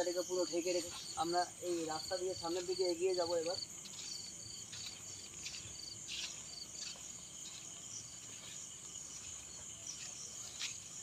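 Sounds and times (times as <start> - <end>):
cricket pulsed chirps: 0.0 - 11.0
footsteps on dirt path: 0.0 - 11.0
insects buzzing: 0.0 - 11.0.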